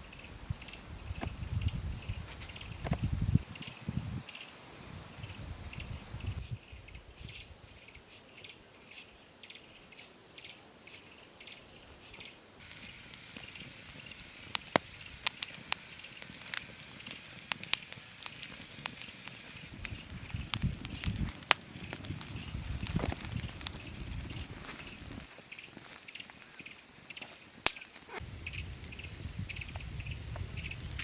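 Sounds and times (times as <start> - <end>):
faint steady hiss: 0.0 - 31.0
short hissing strokes: 0.0 - 31.0.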